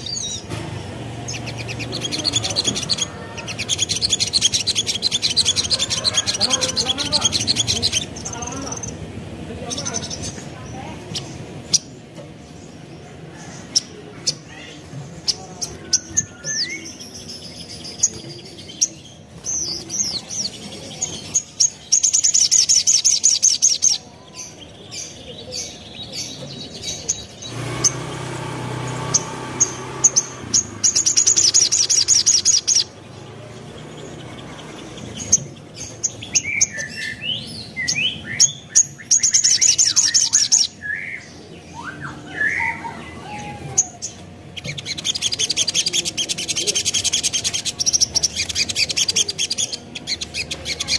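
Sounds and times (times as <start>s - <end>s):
bird singing rapid high trills: 0.0s - 50.9s.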